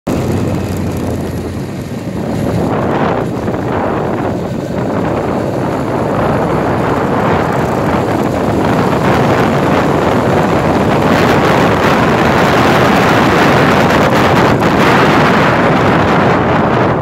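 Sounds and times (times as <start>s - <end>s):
road noise: 0.1s - 17.0s
wind rushing on microphone: 0.1s - 17.0s.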